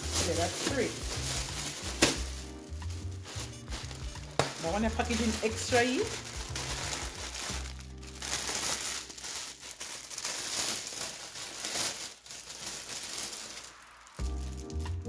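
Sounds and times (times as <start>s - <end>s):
plastic bag crinkling: 0.0s - 14.9s.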